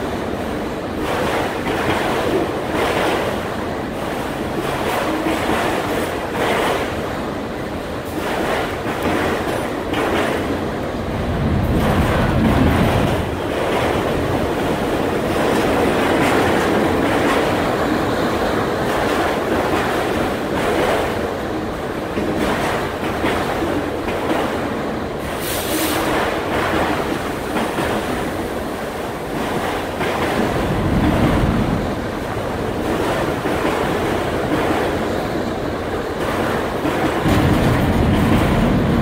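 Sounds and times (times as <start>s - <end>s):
freight train wheels rumbling on rails: 0.0s - 39.0s.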